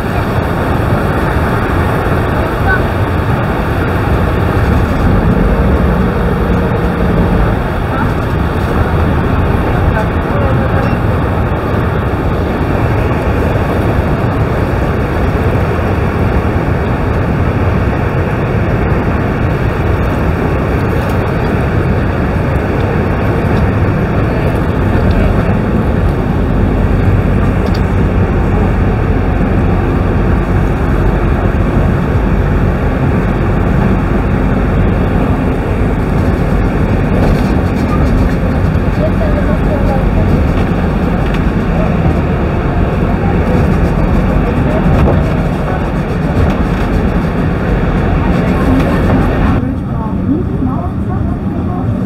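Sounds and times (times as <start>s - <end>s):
boat motor droning: 0.0s - 52.0s
churning water rushing: 0.0s - 52.0s.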